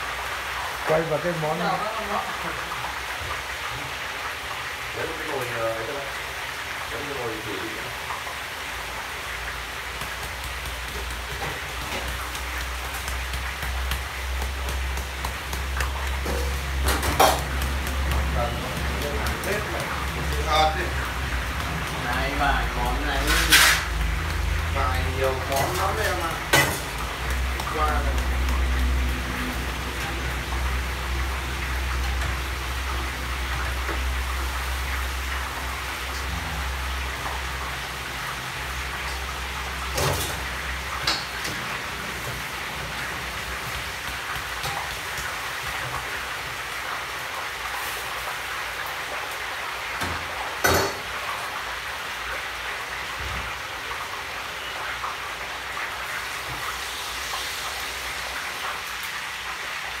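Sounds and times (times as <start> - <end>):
food sizzling in a wok: 0.0 - 60.0.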